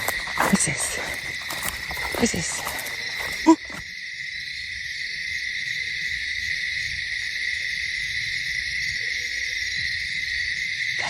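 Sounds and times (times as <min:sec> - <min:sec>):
insects ringing: 0:00.0 - 0:11.0.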